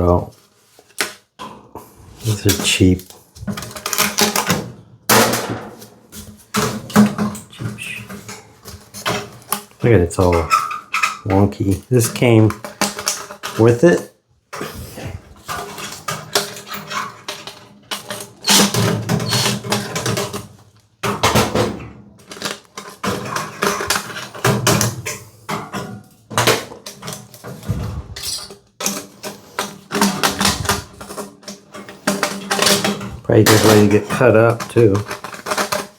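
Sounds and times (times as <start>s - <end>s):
metal duct crinkling and clattering: 0.0s - 35.9s.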